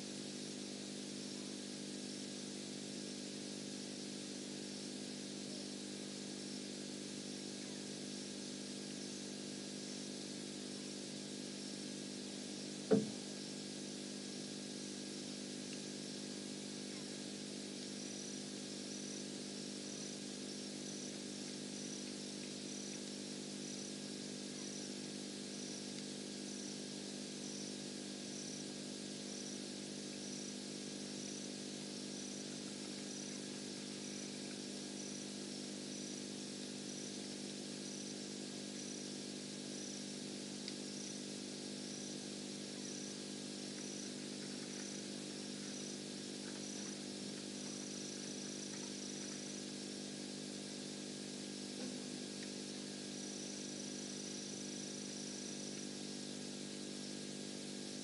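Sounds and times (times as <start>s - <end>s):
low mechanical hum: 0.0s - 58.0s
cricket chirping: 2.6s - 58.0s.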